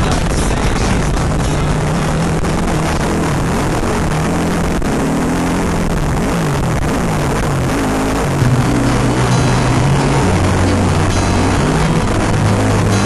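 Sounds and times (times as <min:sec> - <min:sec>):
engine running hard: 0:00.0 - 0:13.0
wind and track noise: 0:00.0 - 0:13.0.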